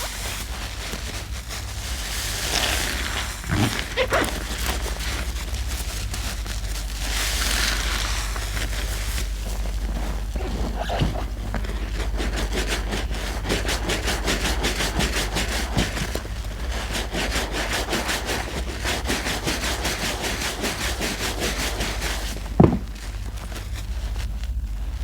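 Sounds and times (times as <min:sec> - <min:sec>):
sponge squelching in lather: 0:00.0 - 0:25.0.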